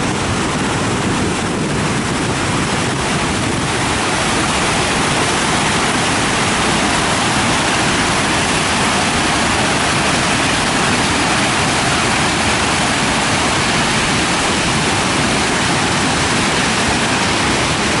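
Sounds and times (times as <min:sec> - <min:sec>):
water rushing over waterfall: 0:00.0 - 0:18.0.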